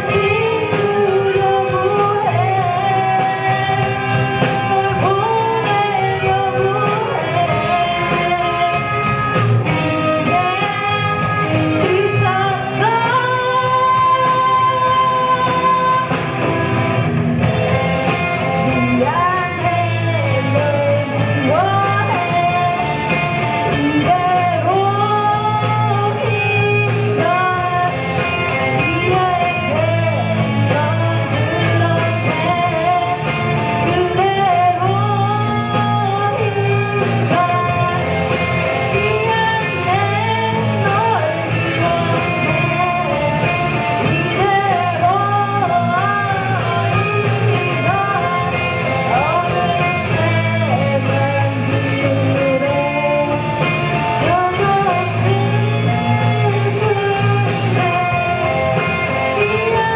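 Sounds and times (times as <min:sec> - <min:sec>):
live rock band playing: 0:00.0 - 0:59.9
person singing lead vocal: 0:00.0 - 0:59.9.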